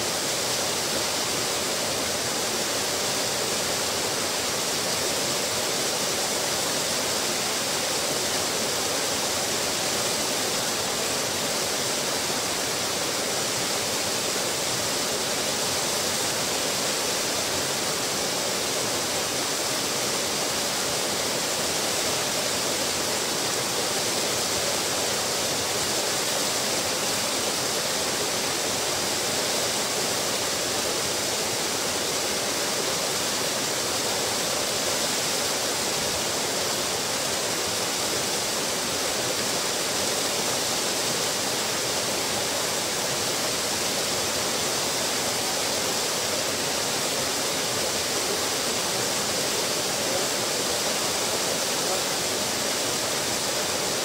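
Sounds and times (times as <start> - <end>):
small waterfall splashing: 0.0 - 54.0.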